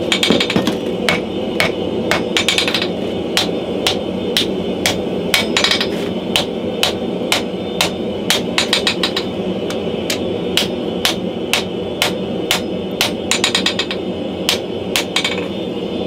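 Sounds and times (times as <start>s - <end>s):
gas forge roar: 0.0s - 16.0s.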